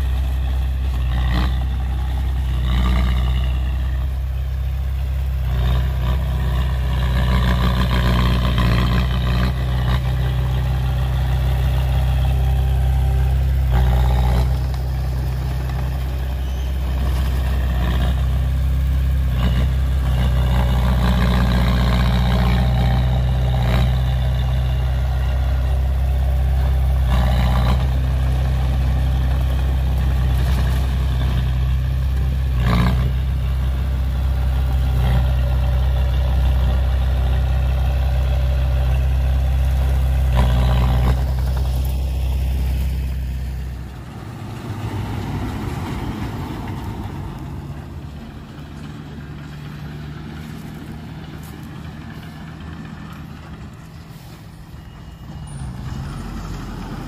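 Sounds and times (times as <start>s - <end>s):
diesel engine running: 0.0s - 57.0s
rough machinery working noise: 0.0s - 57.0s.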